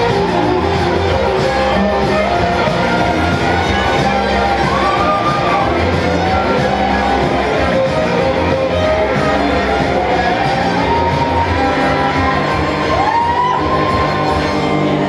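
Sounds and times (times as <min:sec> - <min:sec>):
garage rock band playing: 0:00.0 - 0:15.0.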